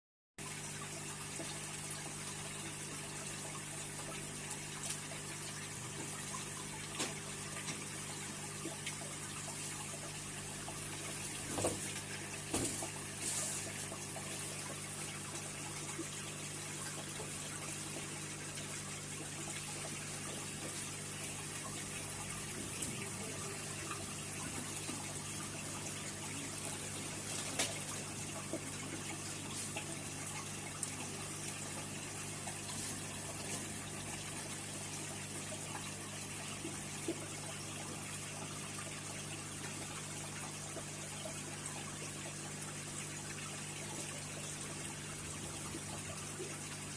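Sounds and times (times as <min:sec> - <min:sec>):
filter pump hum: 0:00.4 - 0:46.9
water trickling and bubbling: 0:00.4 - 0:46.9.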